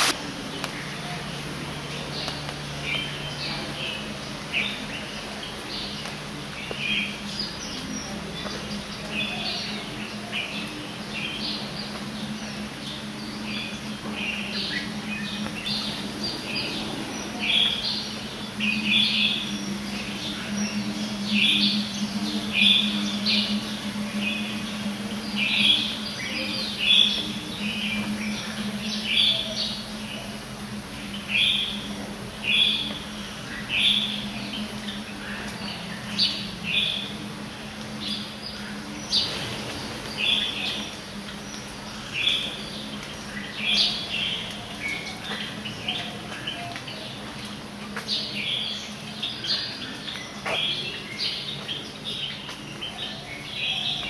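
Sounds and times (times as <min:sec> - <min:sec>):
steady low hum: 0:00.0 - 0:54.0
birds chirping and calling: 0:00.5 - 0:54.0.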